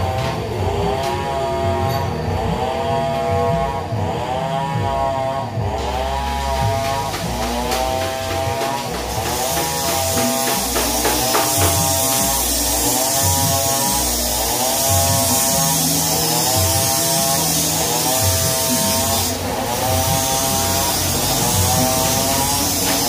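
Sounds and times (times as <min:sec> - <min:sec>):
low bass notes: 0:00.0 - 0:23.0.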